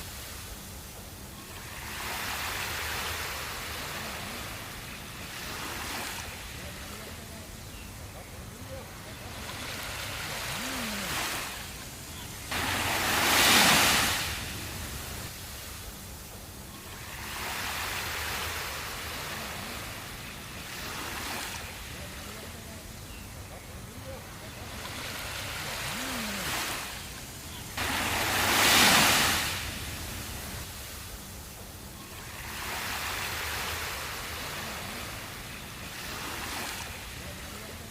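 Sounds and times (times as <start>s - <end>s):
surf washing on sandy beach: 0.0s - 37.9s.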